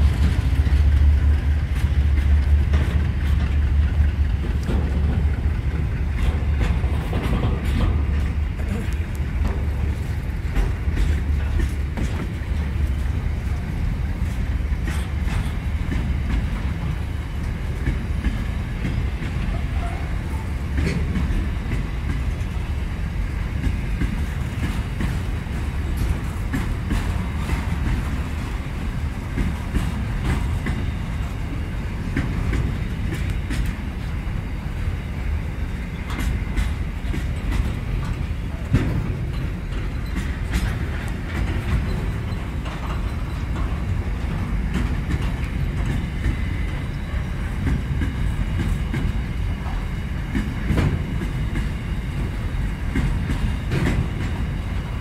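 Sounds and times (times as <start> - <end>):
wagons clicking and clattering: 0.0 - 22.6, 23.6 - 34.1, 35.8 - 54.8
train wheels rumbling on rails: 0.0 - 55.0.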